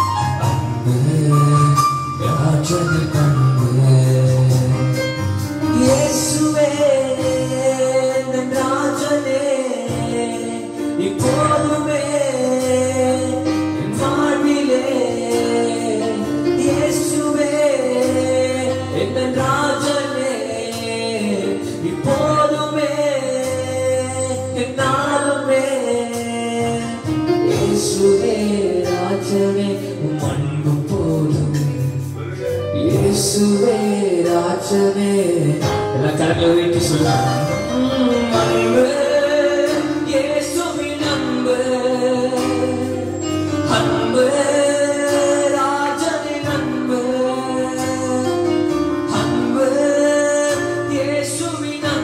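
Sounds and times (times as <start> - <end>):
electronic keyboard chords and bass: 0.0 - 52.0
man singing: 0.0 - 52.0.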